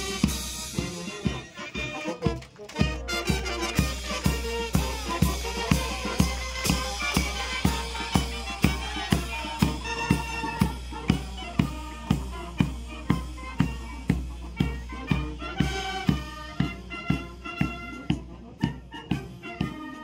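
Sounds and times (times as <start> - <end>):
bass and snare drum beat: 0.0 - 20.0
brass melody: 0.0 - 20.0.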